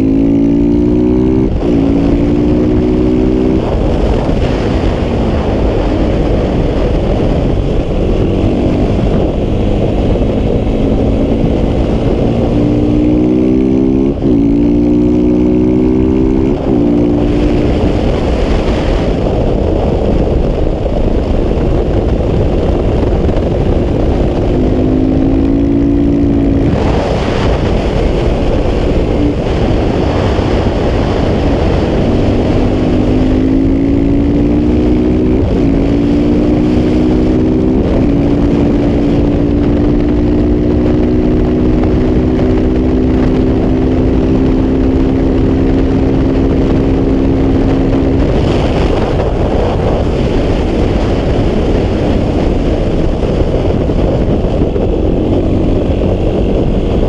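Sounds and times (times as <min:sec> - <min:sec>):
motorcycle engine revving: 0:00.0 - 0:57.0
wind rushing: 0:00.0 - 0:57.0.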